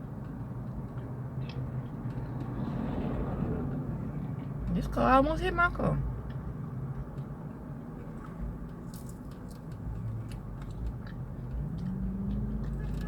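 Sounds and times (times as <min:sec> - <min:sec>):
car interior rumble: 0:00.0 - 0:13.0
low engine hum: 0:00.0 - 0:13.0.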